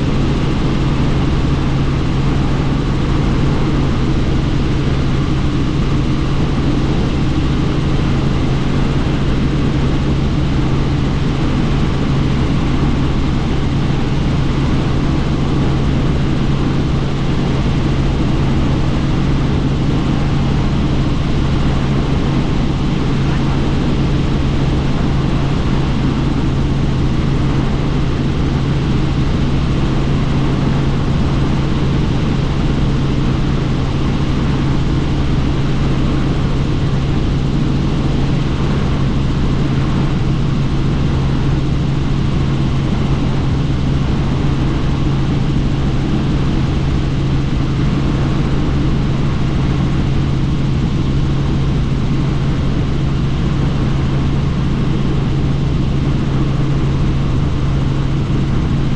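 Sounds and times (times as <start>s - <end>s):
helicopter rotor and engine noise: 0.0s - 58.9s.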